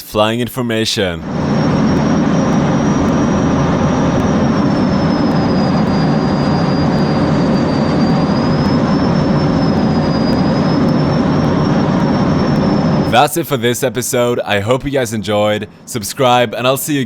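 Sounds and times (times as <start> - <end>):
high whine: 0.0 - 17.0
jet aircraft engine roar: 0.8 - 17.0.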